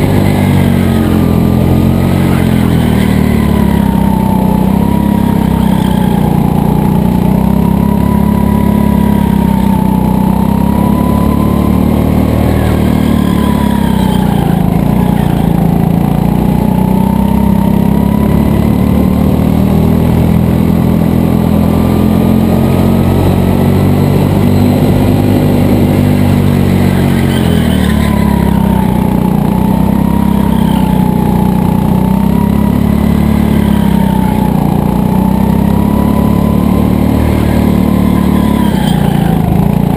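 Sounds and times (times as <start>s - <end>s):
go-kart motor running: 0.0s - 39.9s.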